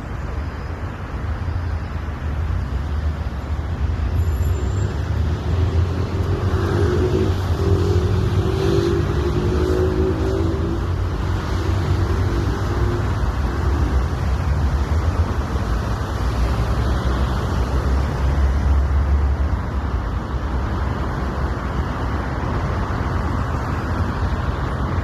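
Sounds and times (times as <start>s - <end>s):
road traffic rumble: 0.0s - 25.0s
passing vehicle engine hum: 2.6s - 25.0s.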